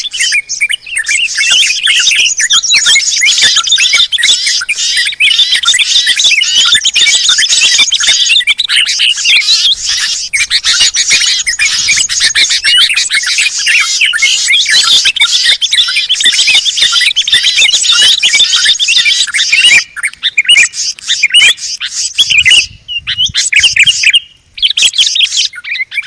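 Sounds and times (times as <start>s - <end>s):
songbirds chirping and trilling: 0.0s - 26.0s.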